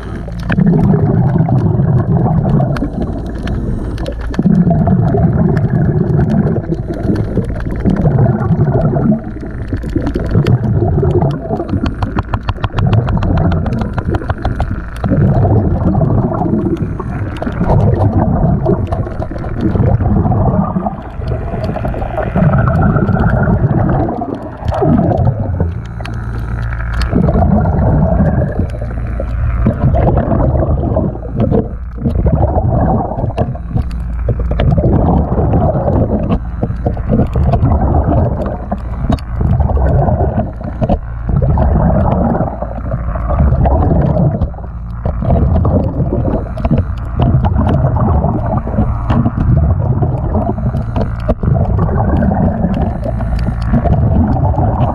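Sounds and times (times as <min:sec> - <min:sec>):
underwater bubbles gurgling: 0:00.0 - 0:54.9.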